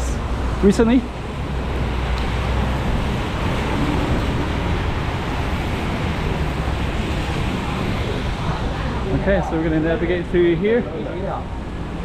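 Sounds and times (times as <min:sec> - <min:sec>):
rain downpour: 0:00.0 - 0:12.0.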